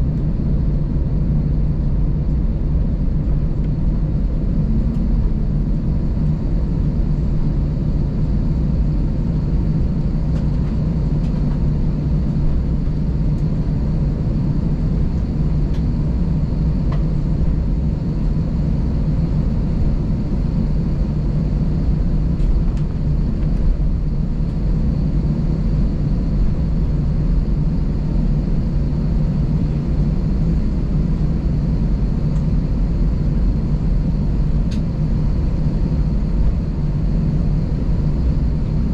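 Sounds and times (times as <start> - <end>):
cockpit engine and air rumble: 0.0 - 38.9.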